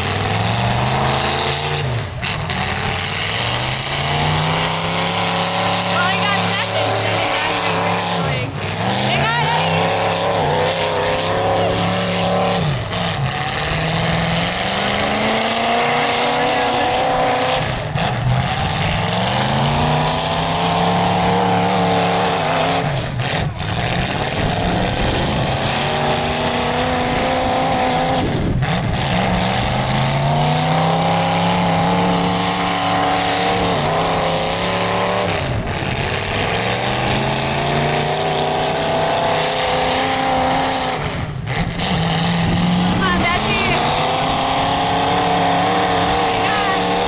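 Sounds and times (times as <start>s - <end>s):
car engine revving hard: 0.0s - 47.0s.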